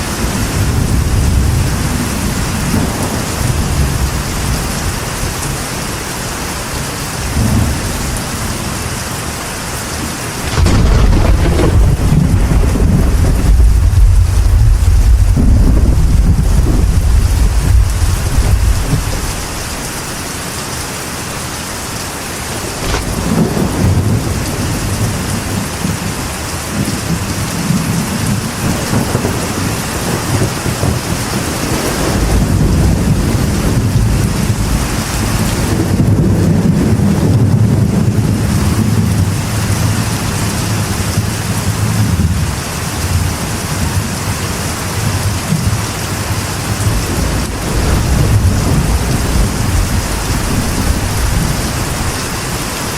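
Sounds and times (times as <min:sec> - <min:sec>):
thunder rumbling: 0:00.0 - 0:06.0, 0:07.2 - 0:09.1, 0:09.8 - 0:20.2, 0:22.4 - 0:52.9
rain on a metal roof: 0:00.0 - 0:52.9.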